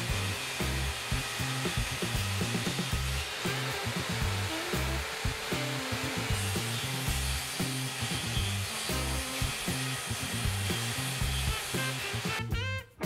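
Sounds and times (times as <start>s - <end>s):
table saw cutting wood: 0.0s - 12.5s
background music with bass line: 0.0s - 13.0s.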